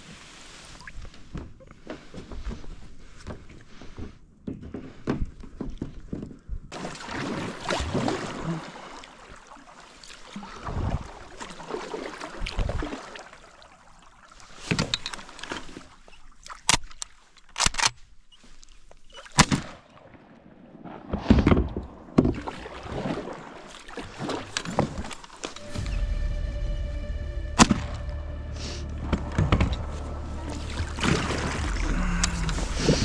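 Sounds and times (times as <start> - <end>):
paddle strokes in water: 0.0 - 4.2, 4.8 - 16.6, 18.4 - 25.6, 29.0 - 33.0.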